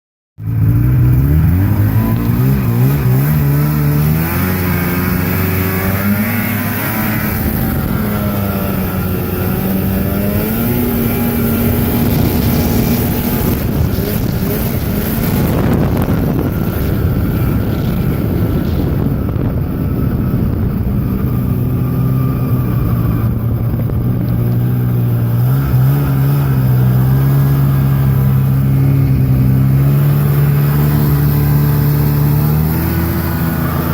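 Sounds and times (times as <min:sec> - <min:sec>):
snowmobile engine running: 0:00.4 - 0:33.9.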